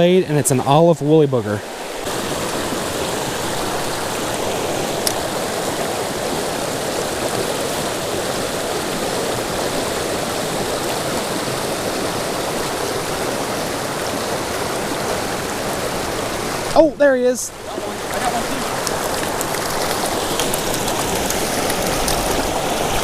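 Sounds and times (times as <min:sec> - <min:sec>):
creek water running over rocks: 0:00.0 - 0:23.0.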